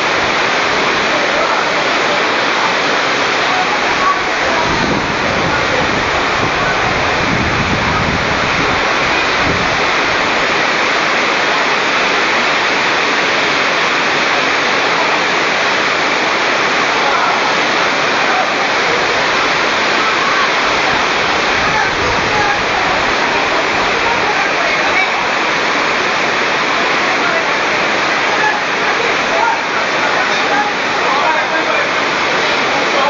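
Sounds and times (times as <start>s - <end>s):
very heavy rain pouring: 0.0s - 33.0s.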